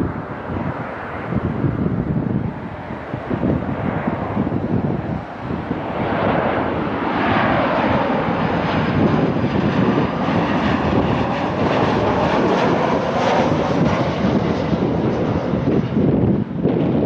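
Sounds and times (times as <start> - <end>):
jet engine roar and whine: 0.0 - 17.0.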